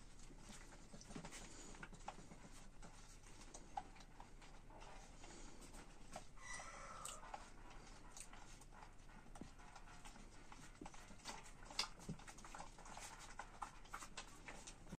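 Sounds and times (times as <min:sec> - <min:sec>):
puppies suckling wet smacking: 0:00.0 - 0:15.0.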